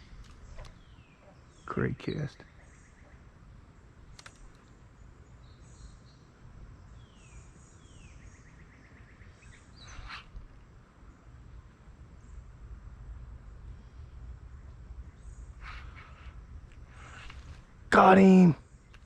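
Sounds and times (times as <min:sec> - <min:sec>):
low outdoor background: 0:00.0 - 0:19.0
songbird singing: 0:00.0 - 0:19.0.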